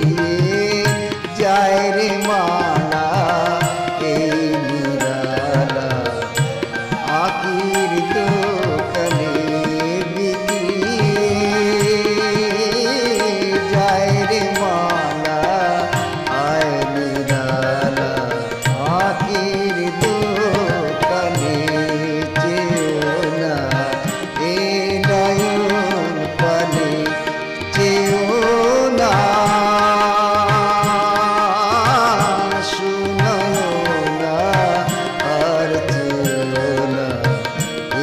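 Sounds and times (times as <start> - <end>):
harmonium chords: 0.0 - 38.0
tabla rhythm: 0.0 - 38.0.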